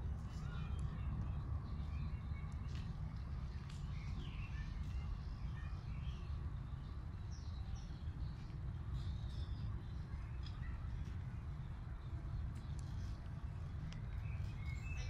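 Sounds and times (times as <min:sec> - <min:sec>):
steady low rumble: 0:00.0 - 0:15.0
small birds chirping: 0:00.1 - 0:15.0.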